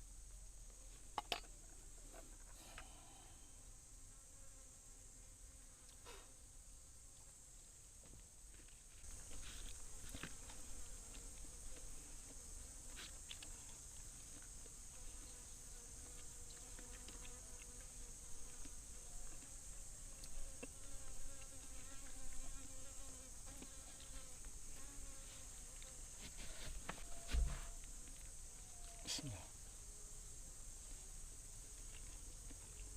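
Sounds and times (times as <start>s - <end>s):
insects droning high-pitched: 0.1s - 4.4s, 8.6s - 32.9s.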